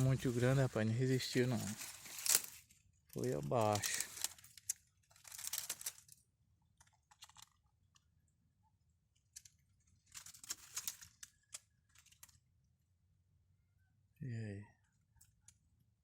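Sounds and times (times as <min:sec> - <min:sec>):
faint crackling and crunching: 0:00.0 - 0:12.9.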